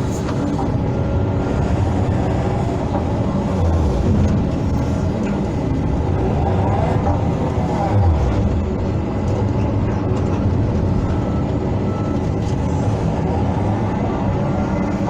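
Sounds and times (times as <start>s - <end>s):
excavator diesel engine running: 0.0s - 15.0s
hydraulic whine: 0.0s - 15.0s
machine mechanical noise: 0.0s - 15.0s.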